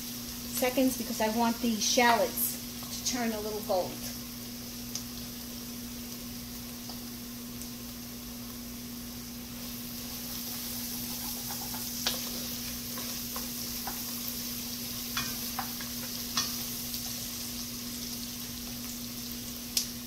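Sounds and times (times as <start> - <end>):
shallots and garlic sizzling in oil: 0.0 - 20.0.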